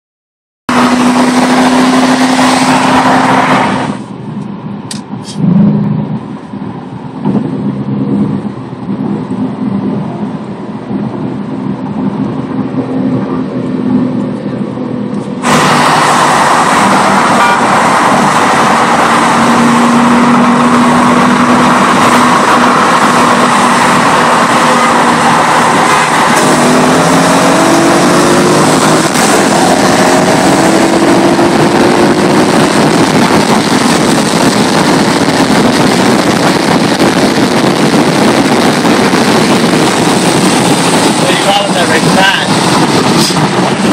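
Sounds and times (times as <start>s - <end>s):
muscle car engines racing: 0.7s - 4.2s, 7.1s - 43.9s.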